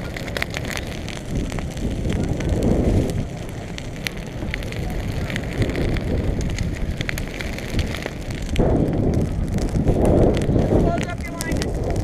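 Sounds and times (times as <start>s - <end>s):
grass fire crackling and popping: 0.0s - 12.0s
low fire rumble: 0.0s - 12.0s.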